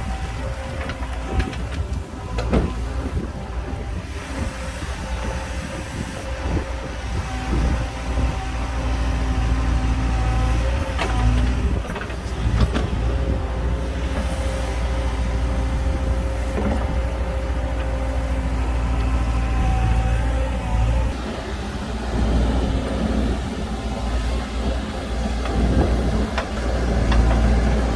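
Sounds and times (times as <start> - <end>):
deep diesel engine rumble: 0.0 - 27.9.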